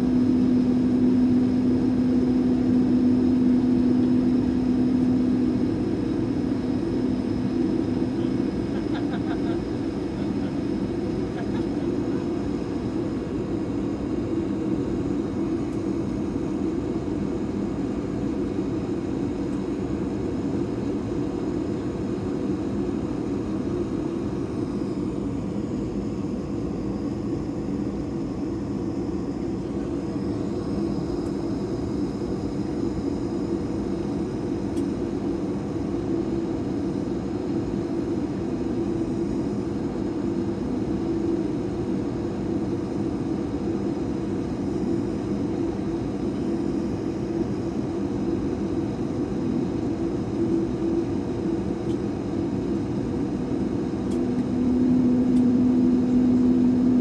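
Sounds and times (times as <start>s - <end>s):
aircraft cabin hum: 0.0s - 57.0s.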